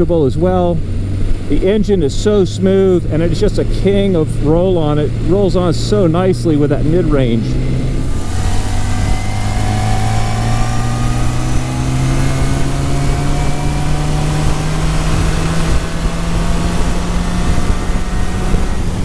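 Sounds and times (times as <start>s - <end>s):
motorcycle engine accelerating: 0.0s - 19.0s
wind noise rushing: 0.8s - 19.0s.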